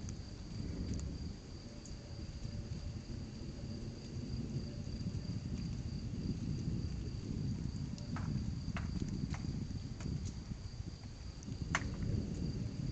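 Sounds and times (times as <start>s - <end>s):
crickets trilling: 0.0s - 12.9s
thunder rumbling: 0.0s - 12.9s.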